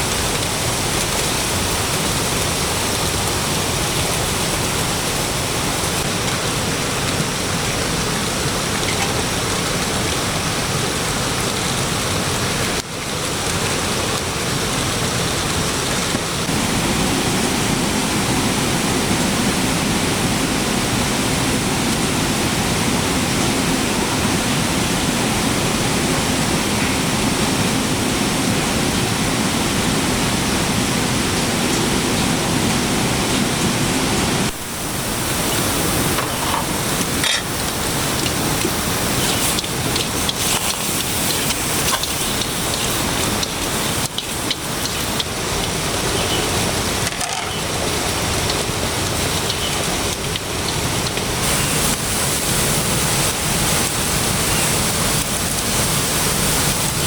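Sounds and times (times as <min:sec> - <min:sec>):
loud rush of water: 0:00.0 - 0:57.0.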